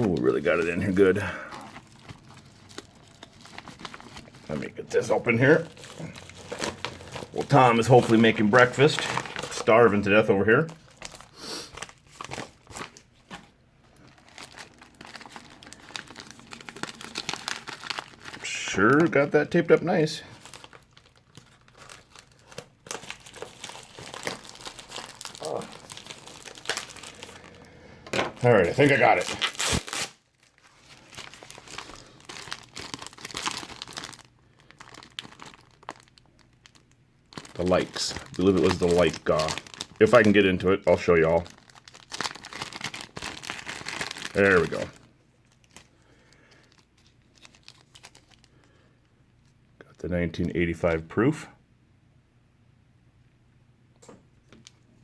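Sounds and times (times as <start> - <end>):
packing tape crinkling and tearing: 0.0 - 48.7.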